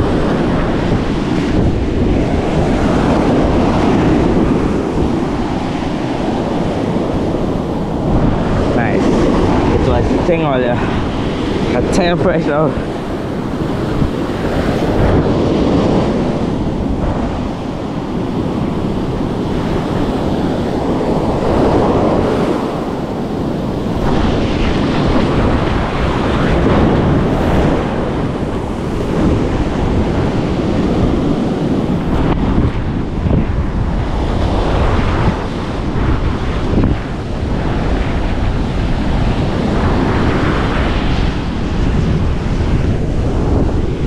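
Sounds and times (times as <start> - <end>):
ocean surf breaking on beach: 0.0 - 44.0
wind buffeting microphone: 0.0 - 44.0.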